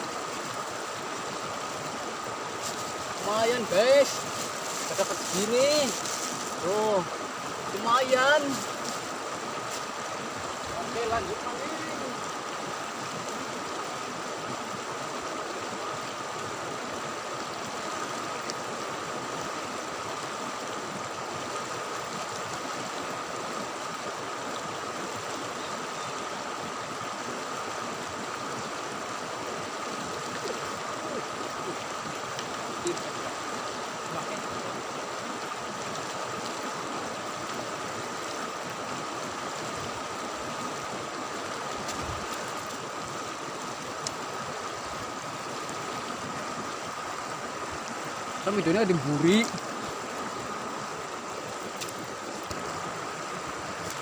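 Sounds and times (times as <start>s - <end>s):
flowing river water: 0.0s - 54.0s.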